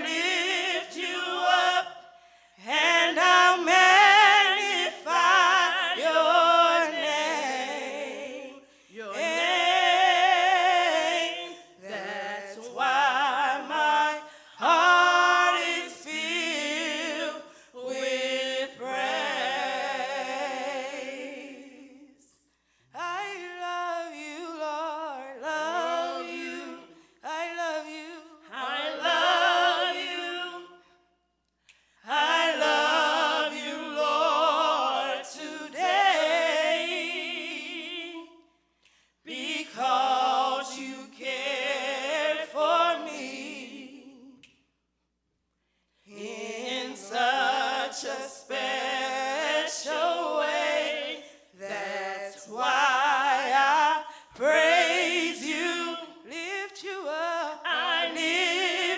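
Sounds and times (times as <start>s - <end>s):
voices singing a gospel song: 0.0s - 44.9s, 45.5s - 58.9s.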